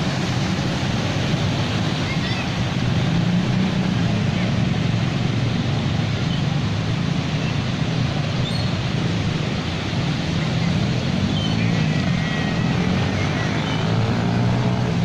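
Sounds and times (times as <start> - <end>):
car engines: 0.0 - 15.0
tyres pushing through water: 0.0 - 15.0.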